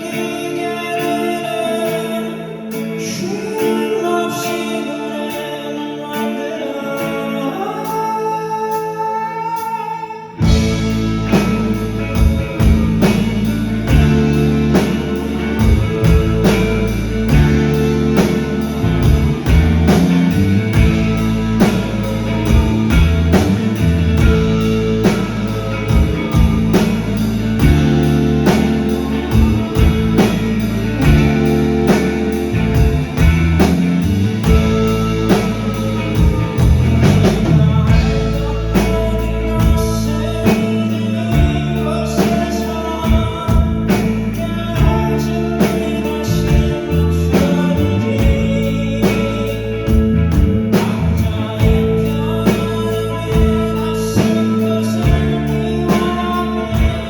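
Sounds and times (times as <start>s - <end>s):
drums: 0.0s - 5.5s, 7.0s - 57.0s
live rock band playing: 0.0s - 8.1s, 8.7s - 57.0s
bass guitar: 0.0s - 57.0s
guitar: 0.0s - 57.0s
person singing: 0.0s - 57.0s.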